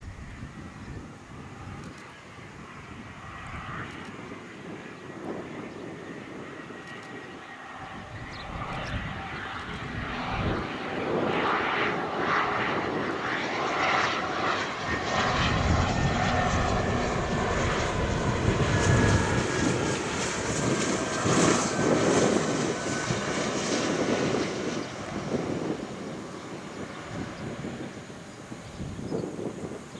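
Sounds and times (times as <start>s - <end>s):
jet landing: 0.0s - 29.9s
thin engine whine: 0.1s - 29.9s.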